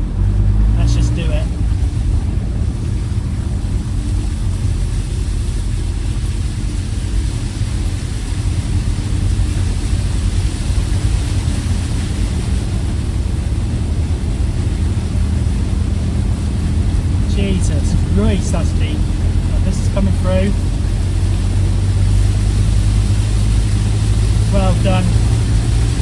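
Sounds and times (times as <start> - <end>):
van engine running: 0.0 - 26.0
water rushing and spraying: 0.0 - 26.0.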